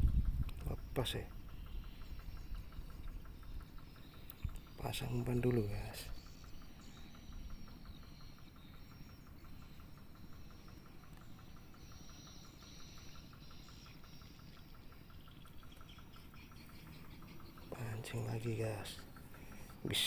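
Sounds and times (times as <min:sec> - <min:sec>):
insect chirping: 0:00.0 - 0:20.0
low outdoor background noise: 0:00.0 - 0:20.0.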